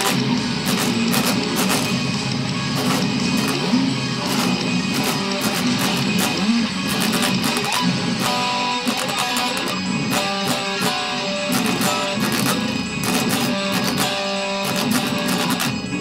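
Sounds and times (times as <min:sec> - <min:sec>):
electric guitar playing metal: 0:00.0 - 0:16.0.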